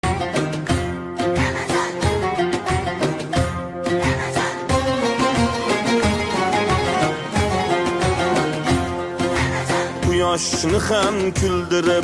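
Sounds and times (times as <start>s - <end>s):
folk music with string instruments: 0.0s - 12.0s.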